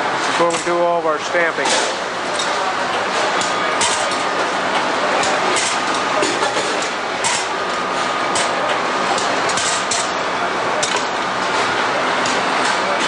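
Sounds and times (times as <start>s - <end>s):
machinery running: 0.0s - 13.0s.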